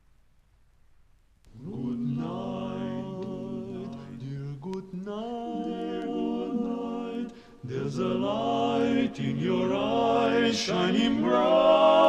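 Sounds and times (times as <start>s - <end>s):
vocal quartet singing harmony: 1.5s - 12.0s.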